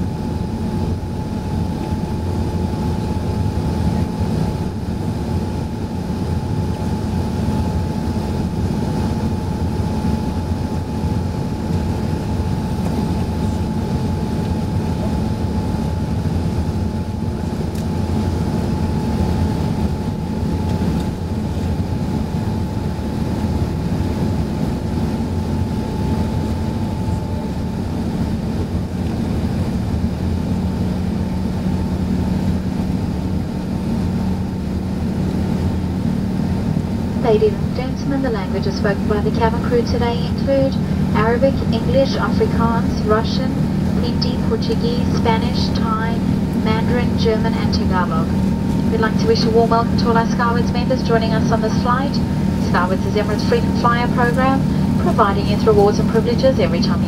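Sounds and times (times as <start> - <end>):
airplane cabin low rumble: 0.0 - 57.0
low hum: 0.0 - 57.0
thin steady whine: 0.0 - 57.0.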